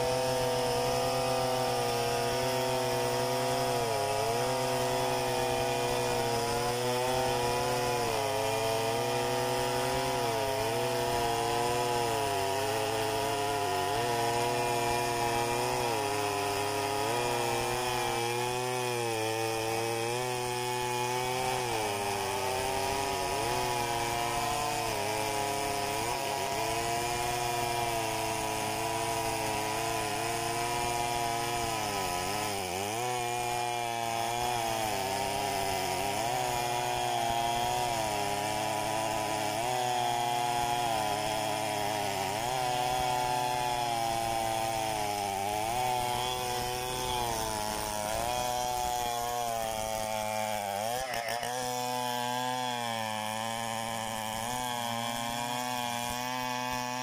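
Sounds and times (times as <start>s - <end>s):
chainsaws cutting wood: 0.0s - 57.0s.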